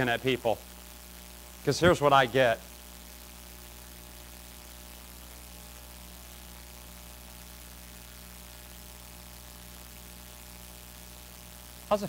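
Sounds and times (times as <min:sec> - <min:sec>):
even hiss: 0:00.0 - 0:12.0
low electrical mains hum: 0:00.0 - 0:12.0.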